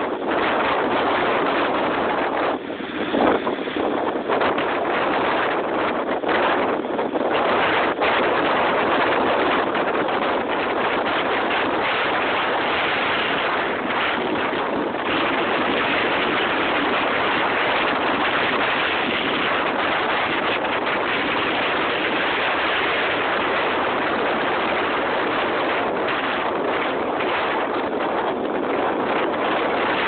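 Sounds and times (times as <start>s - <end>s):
waves surging in strong wind: 0.0s - 30.0s.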